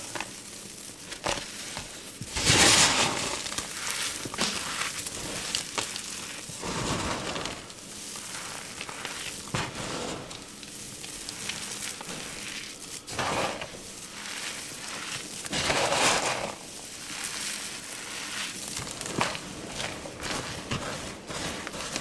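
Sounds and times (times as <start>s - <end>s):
hands crunching dry powder: 0.0s - 22.0s
powder sifting hiss: 0.0s - 22.0s.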